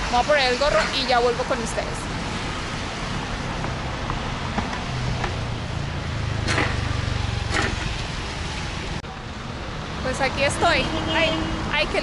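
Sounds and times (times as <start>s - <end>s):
street noise: 0.0s - 12.0s
vehicle engine hum: 0.0s - 12.0s.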